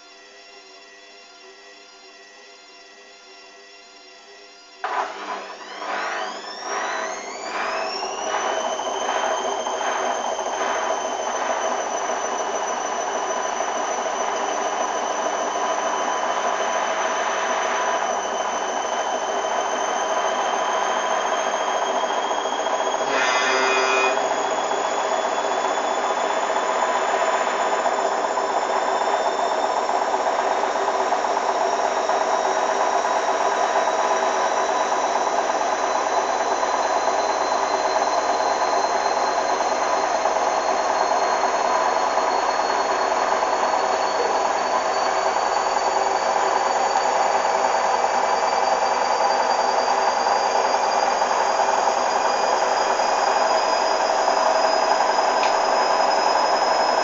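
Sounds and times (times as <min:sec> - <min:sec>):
washing machine whirring: 0:04.7 - 0:57.0.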